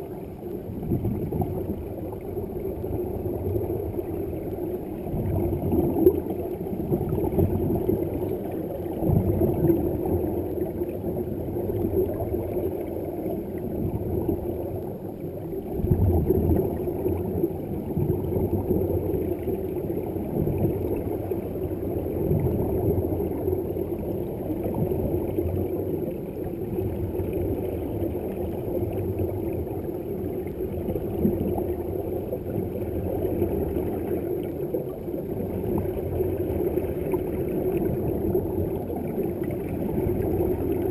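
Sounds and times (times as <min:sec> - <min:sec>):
muffled underwater rumble: 0:00.0 - 0:40.9.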